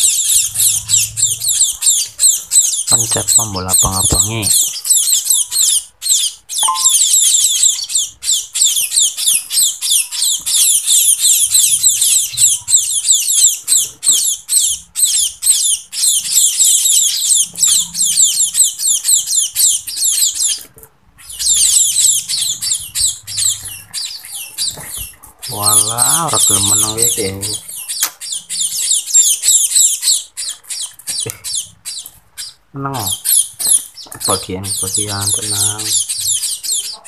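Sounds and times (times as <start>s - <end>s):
chicks begging chirps: 0.0s - 37.0s.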